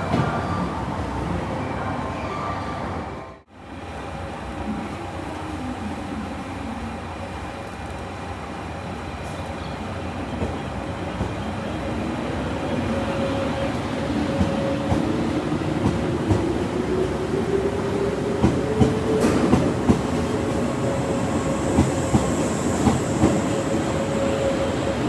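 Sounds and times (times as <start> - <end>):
train wheels rumbling: 3.9 - 25.0.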